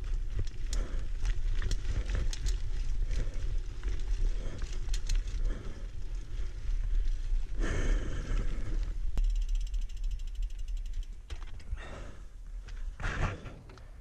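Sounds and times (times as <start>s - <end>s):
bicycle freewheel ticking: 0.0s - 12.0s
rustling trail noise: 0.0s - 14.0s.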